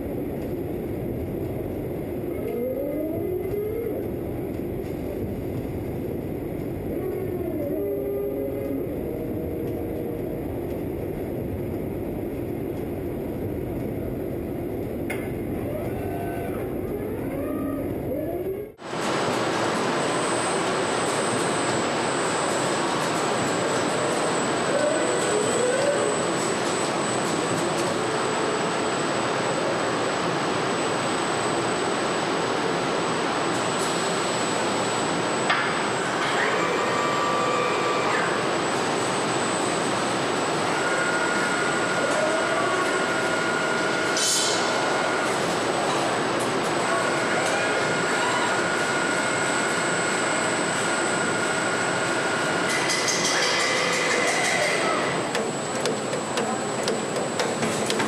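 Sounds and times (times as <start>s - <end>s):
factory machinery hum: 0.0s - 58.0s.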